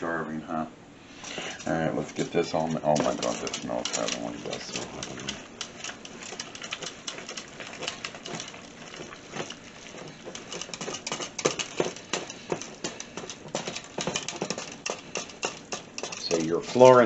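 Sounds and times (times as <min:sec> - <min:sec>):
spoon scraping metal bowl: 0:01.2 - 0:17.0.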